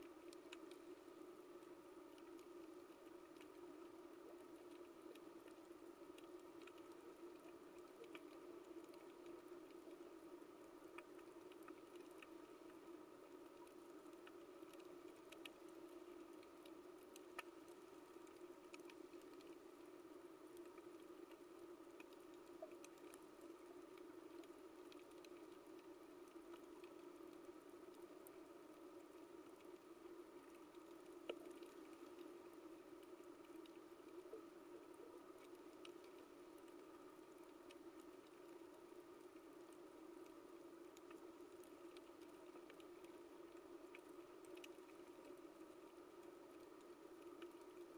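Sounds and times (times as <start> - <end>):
underwater crackling clicks: 0.0 - 47.9.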